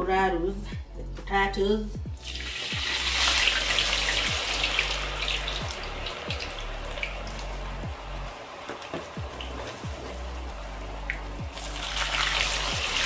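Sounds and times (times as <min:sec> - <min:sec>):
background music with low beats: 0:00.0 - 0:13.0
potatoes sizzling in hot oil: 0:02.2 - 0:13.0.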